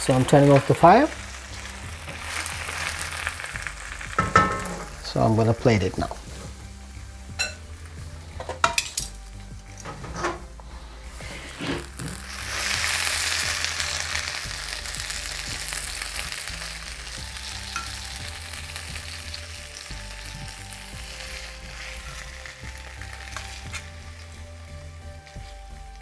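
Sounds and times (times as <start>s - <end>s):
oil sizzling in a wok: 0.0s - 26.0s.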